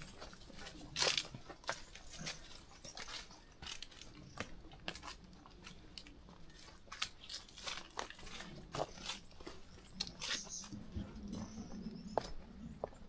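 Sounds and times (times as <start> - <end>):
footsteps crunching on trail: 0.0 - 13.0.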